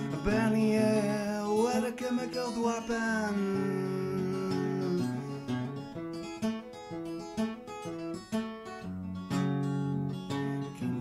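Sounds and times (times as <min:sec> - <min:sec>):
acoustic guitar fingerpicked: 0:00.0 - 0:11.0.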